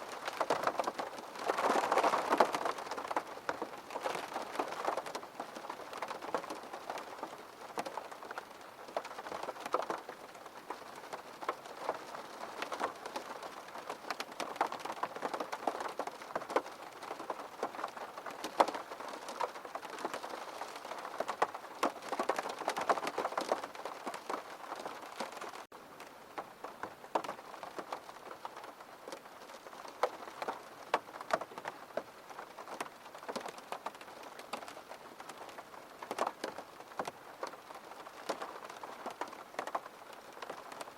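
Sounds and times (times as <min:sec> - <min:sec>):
raindrops ticking: 0:00.0 - 0:40.9
steady rain hiss: 0:00.0 - 0:40.9.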